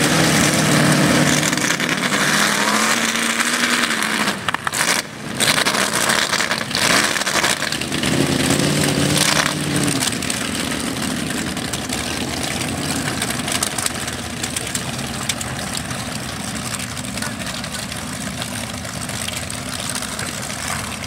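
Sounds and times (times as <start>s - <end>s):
truck engine revving and idling: 0.0s - 21.0s.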